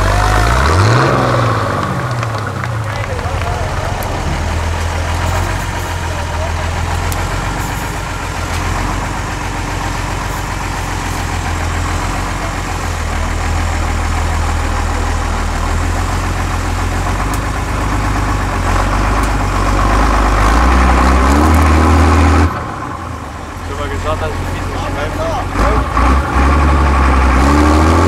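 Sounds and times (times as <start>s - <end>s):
diesel engine at low revs: 0.0s - 28.0s.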